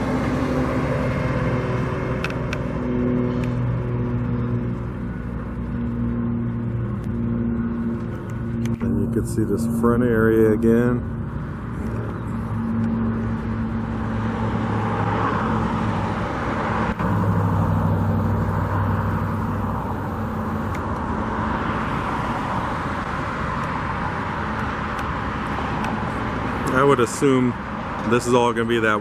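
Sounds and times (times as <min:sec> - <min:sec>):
low engine hum: 0:00.0 - 0:29.0
vehicles passing: 0:00.0 - 0:29.0.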